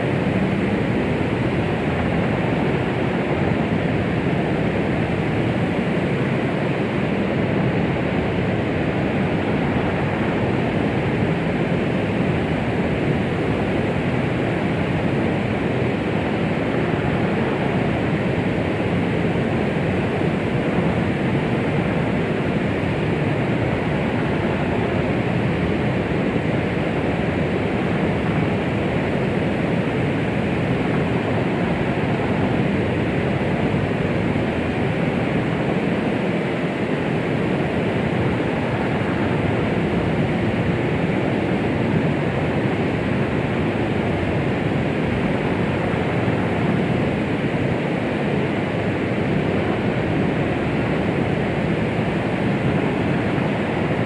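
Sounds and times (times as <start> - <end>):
deep muffled white noise: 0.0 - 54.0.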